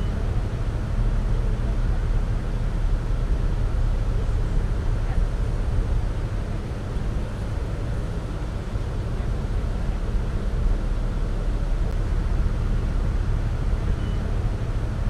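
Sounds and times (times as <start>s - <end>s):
boat engine droning: 0.0s - 15.0s
water washing along hull: 0.0s - 15.0s.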